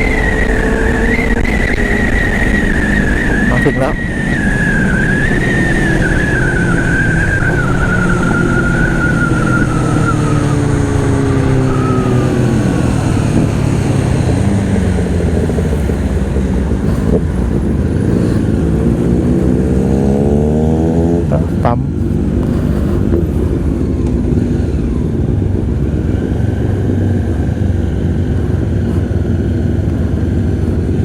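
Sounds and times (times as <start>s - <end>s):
high whine: 0.0s - 31.0s
motorcycle engine running: 0.0s - 31.0s
wind rush on microphone: 0.0s - 31.0s.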